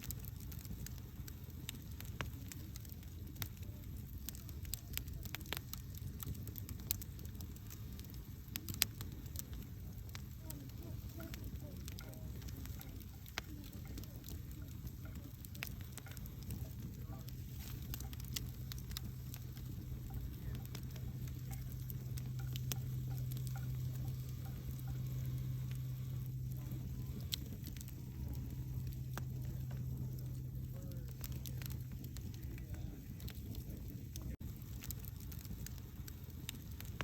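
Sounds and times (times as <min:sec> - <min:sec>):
campfire crackling: 0:00.0 - 0:37.0
low hum: 0:00.0 - 0:37.0.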